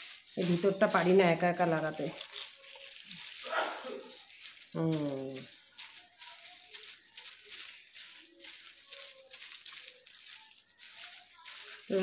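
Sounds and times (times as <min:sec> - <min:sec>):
plastic glove crinkling in wet hair: 0:00.0 - 0:12.0.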